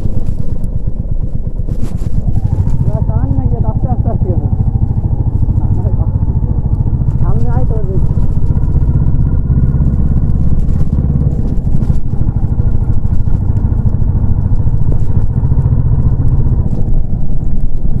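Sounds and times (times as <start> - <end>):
motorcycle exhaust beat: 0.0 - 18.0.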